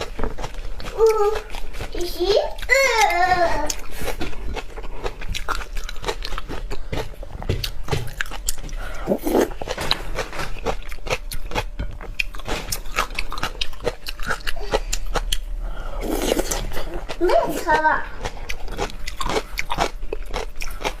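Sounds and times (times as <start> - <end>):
chewing and crunching shrimp: 0.0 - 21.0.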